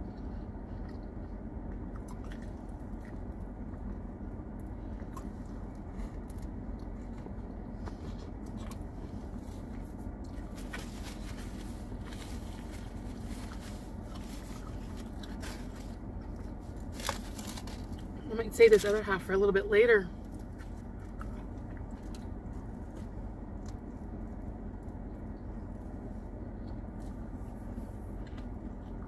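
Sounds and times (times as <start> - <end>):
chewing a sandwich: 0.0 - 18.2, 20.1 - 29.0
air conditioning hum: 0.0 - 29.0.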